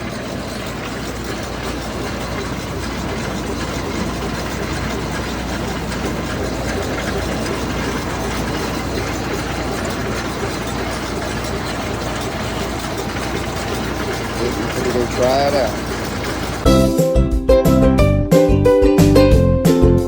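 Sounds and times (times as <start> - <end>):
heavy engine humming: 0.0 - 16.8.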